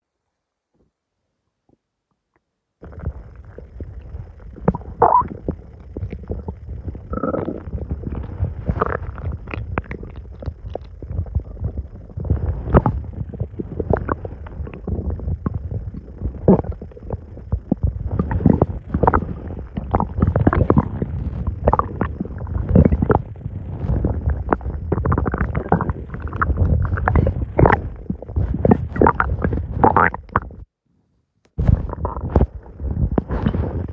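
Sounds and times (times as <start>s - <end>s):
stomach gurgling and rumbling: 1.6s - 30.8s, 31.5s - 33.9s.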